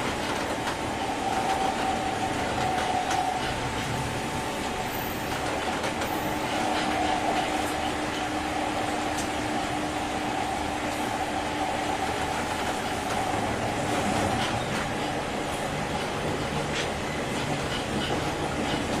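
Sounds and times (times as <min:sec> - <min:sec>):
electric train running: 0:00.0 - 0:19.0.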